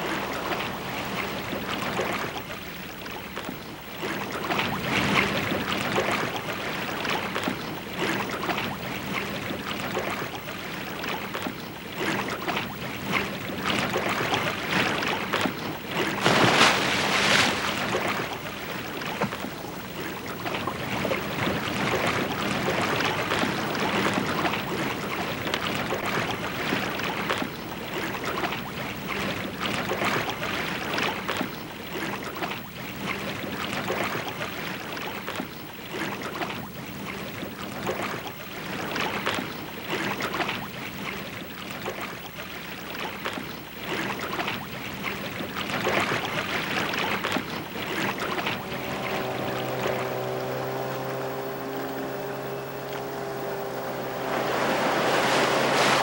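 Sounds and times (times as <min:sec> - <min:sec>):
water splashing around swimming dog: 0:00.0 - 0:56.0.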